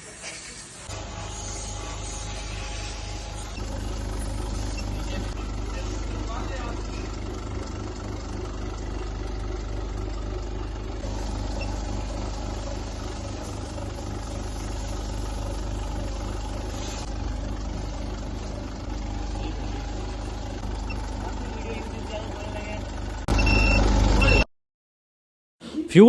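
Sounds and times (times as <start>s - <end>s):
low mechanical engine hum: 0.9s - 24.4s.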